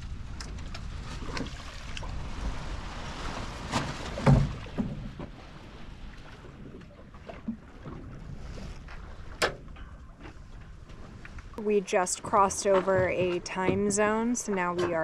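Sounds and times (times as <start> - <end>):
water washing along boat hull: 0.0 - 15.0.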